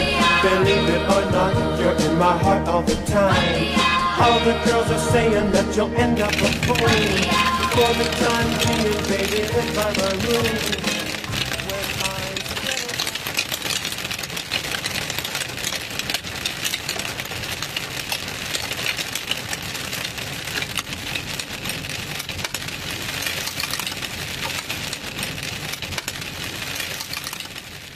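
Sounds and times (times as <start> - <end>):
road noise: 0.0 - 27.9
hail rattling on car roof: 4.8 - 27.9.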